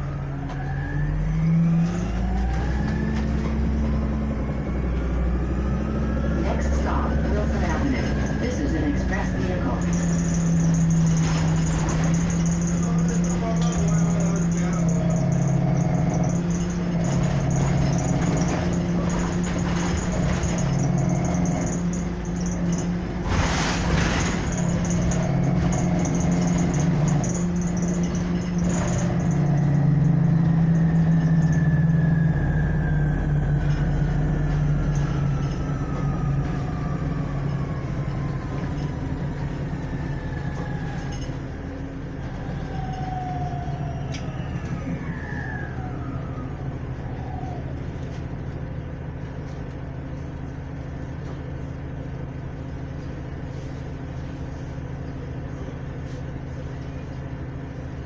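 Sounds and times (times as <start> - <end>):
bus engine humming: 0.0 - 58.0.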